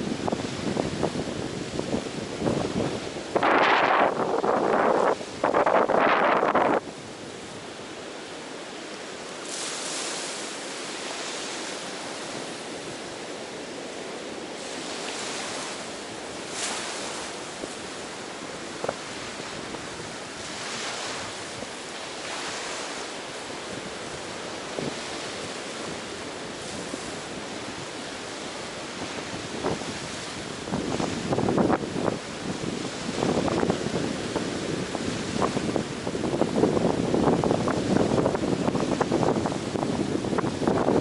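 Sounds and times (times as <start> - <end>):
ocean waves breaking: 0.0 - 41.0
wind on microphone: 0.0 - 41.0.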